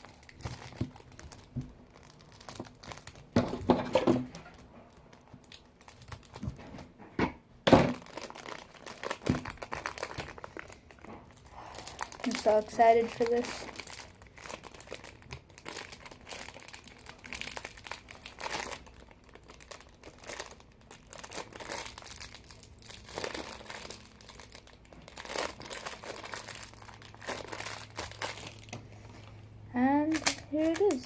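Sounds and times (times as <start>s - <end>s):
plastic wrapping crinkling: 0.0s - 6.8s, 7.8s - 31.0s.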